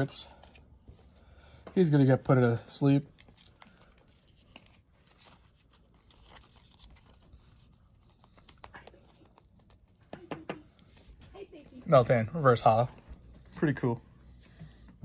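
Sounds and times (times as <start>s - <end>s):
trading cards rustling: 0.0s - 15.0s.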